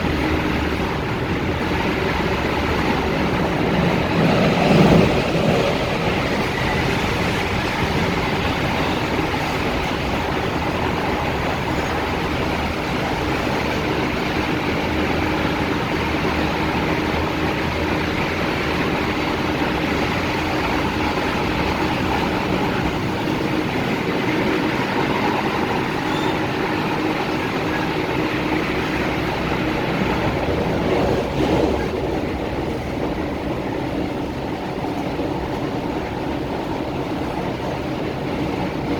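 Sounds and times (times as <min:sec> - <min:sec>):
train wheels rushing on track: 0:00.0 - 0:38.9.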